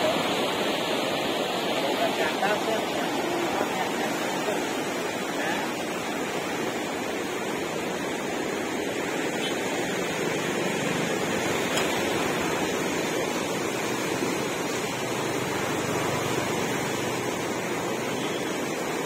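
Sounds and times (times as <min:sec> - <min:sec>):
flooded river rushing: 0:00.0 - 0:19.0.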